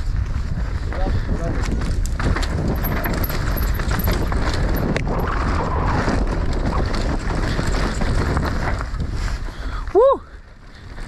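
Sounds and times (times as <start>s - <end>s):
bike knocking and rattling: 0.0s - 9.8s
wind rumbling on microphone: 0.0s - 11.0s
tyres rolling over dirt and stones: 0.3s - 9.6s.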